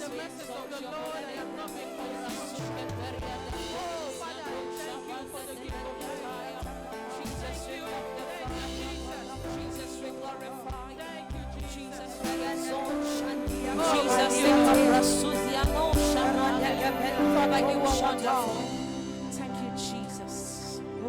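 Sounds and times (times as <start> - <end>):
gospel worship music: 0.0 - 21.0.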